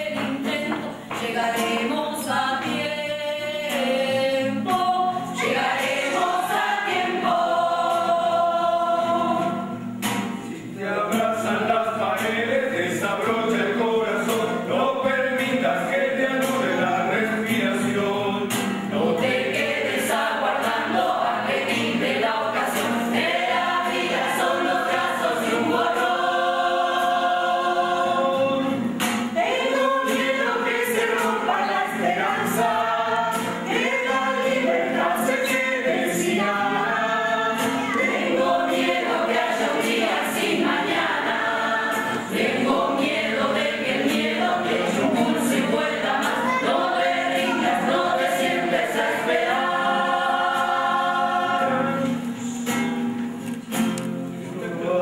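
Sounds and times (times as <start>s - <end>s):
choir singing in parts: 0.0s - 52.8s.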